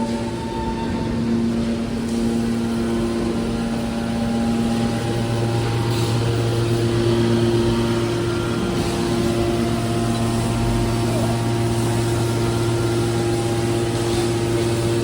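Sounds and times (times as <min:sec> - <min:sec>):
hydraulic baler press humming: 0:00.0 - 0:15.0.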